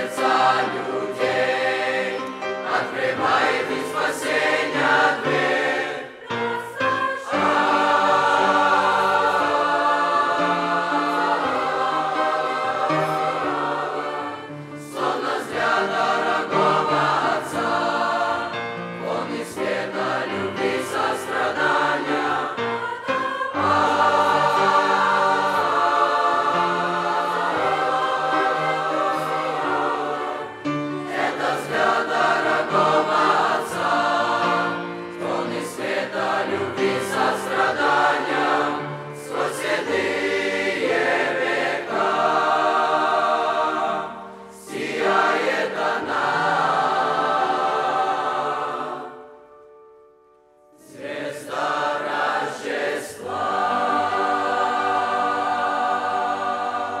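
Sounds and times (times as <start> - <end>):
choir singing in parts: 0.0 - 49.7, 50.7 - 57.0.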